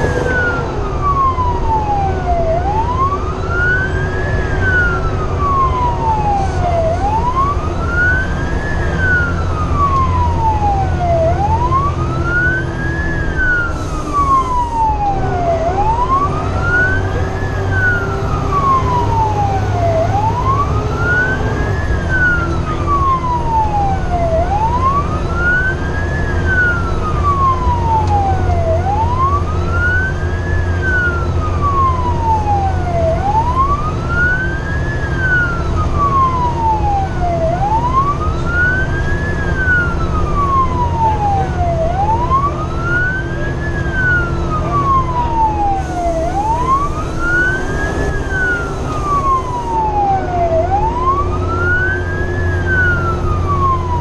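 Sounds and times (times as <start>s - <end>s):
engine and road drone: 0.0s - 54.0s
siren wailing: 0.0s - 54.0s.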